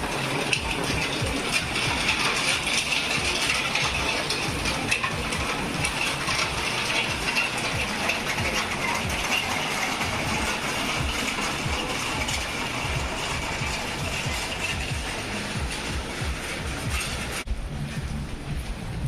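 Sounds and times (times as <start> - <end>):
rain tapping on roofs: 0.0 - 19.0.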